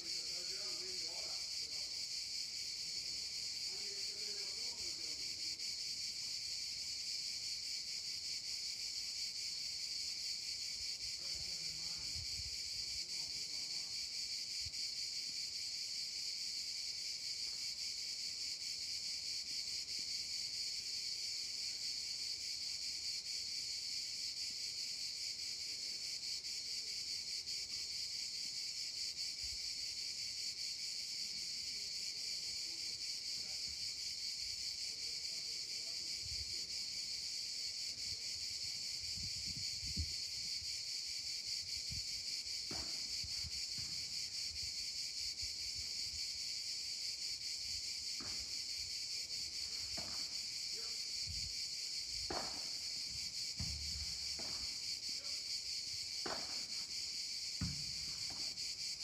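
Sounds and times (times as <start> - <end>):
cicadas chorus: 0.0 - 59.0.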